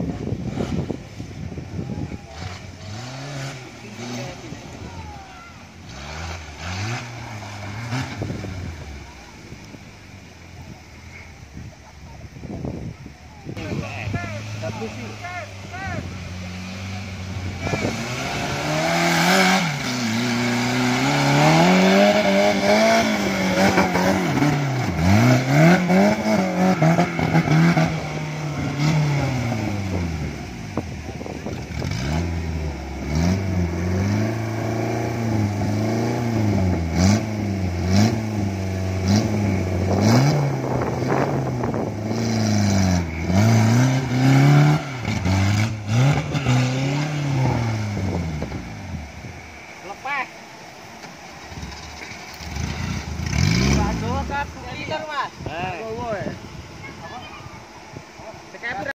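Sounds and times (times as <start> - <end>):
buggy engine revving: 0.0 - 58.9.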